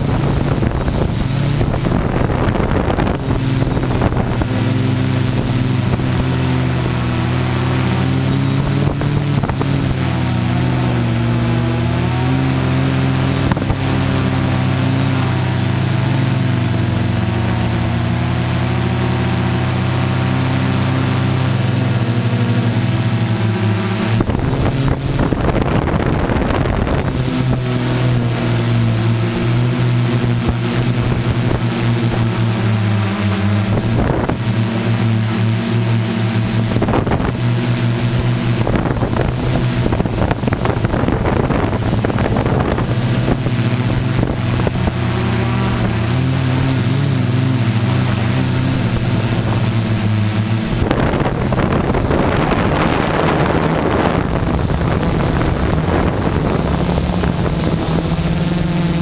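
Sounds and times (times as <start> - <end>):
drone propellers humming: 0.0 - 59.0
wind on microphone: 0.0 - 59.0.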